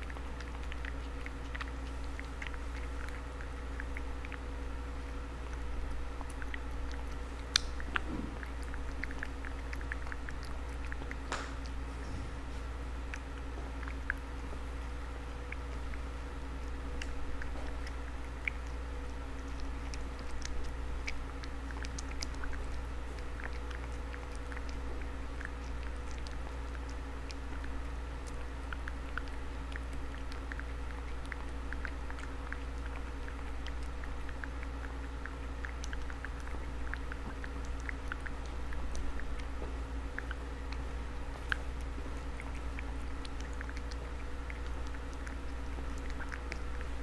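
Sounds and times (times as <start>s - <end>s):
cat chewing clicks and smacks: 0.0s - 47.0s
steady low hum: 0.0s - 47.0s.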